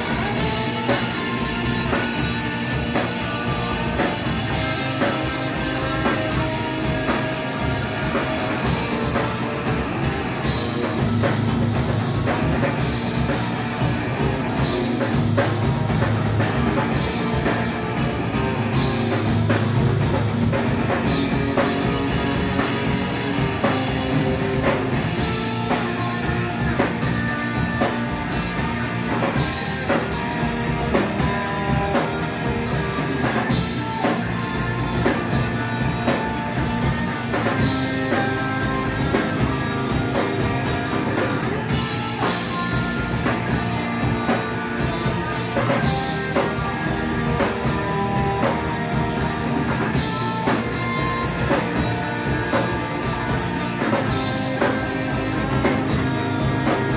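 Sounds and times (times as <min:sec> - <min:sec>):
drum kit beat: 0:00.0 - 0:56.9
live rock band playing: 0:00.0 - 0:56.9.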